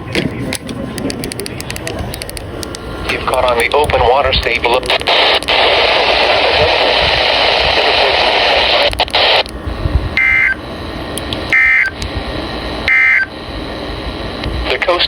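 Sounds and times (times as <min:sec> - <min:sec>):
radio static hiss: 0:01.2 - 0:15.0.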